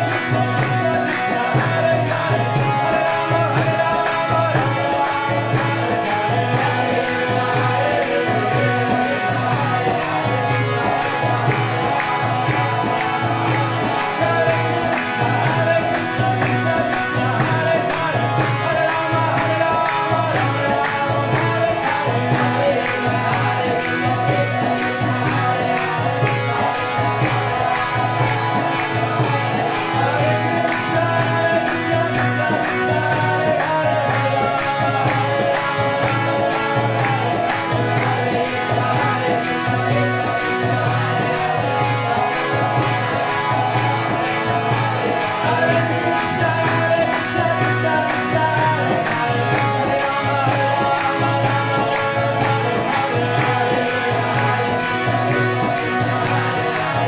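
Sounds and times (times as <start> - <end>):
metallic jingling percussion: 0.0 - 57.0.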